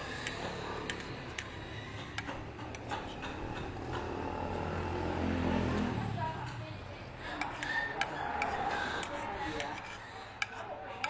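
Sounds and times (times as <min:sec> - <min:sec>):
passing vehicle engine hum: 0:00.0 - 0:09.4.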